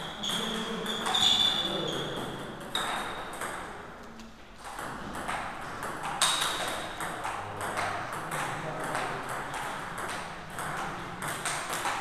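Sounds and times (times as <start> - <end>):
table tennis ball pinging: 0.0 - 3.9, 4.6 - 12.0.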